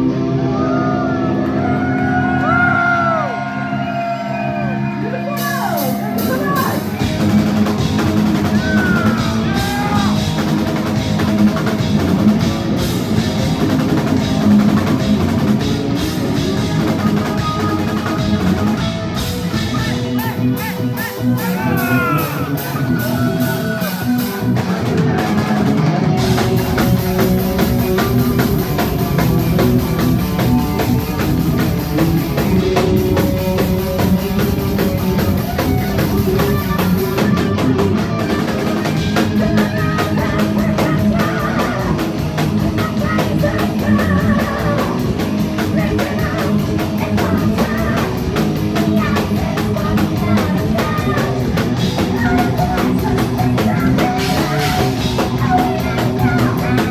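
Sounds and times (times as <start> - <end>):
heavy metal band playing: 0.0 - 56.9.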